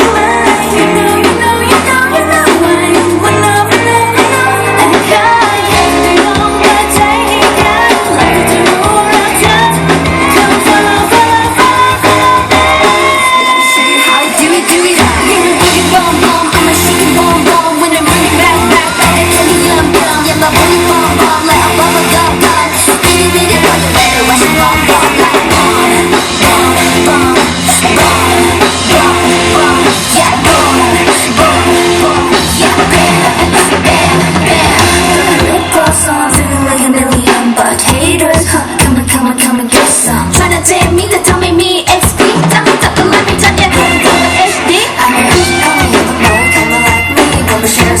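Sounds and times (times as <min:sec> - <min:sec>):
pop dance song sung live: 0:00.0 - 0:48.0.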